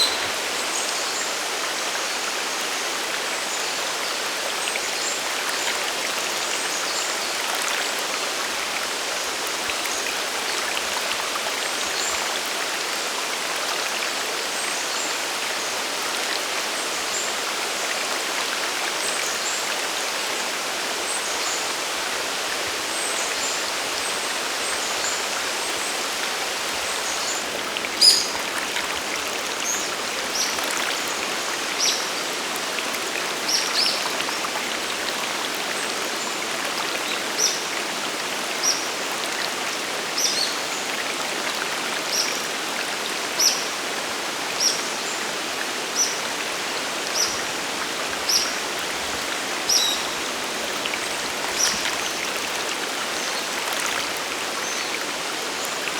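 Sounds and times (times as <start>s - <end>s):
mountain stream and waterfall: 0.0s - 55.9s.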